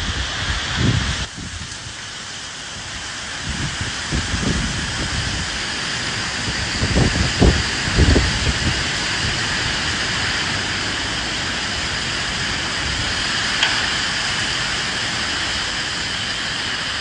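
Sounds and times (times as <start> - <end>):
rumbling wind gusts: 0.0 - 17.0
steady rain hissing: 0.0 - 17.0.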